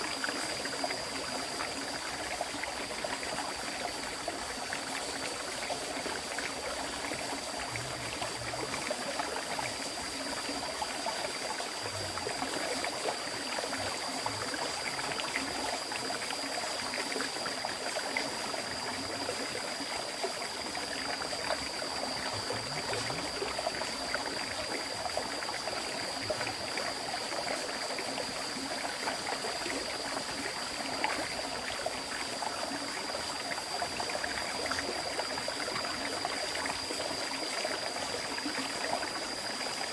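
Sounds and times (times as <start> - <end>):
thin steady high tone: 0.0 - 39.9.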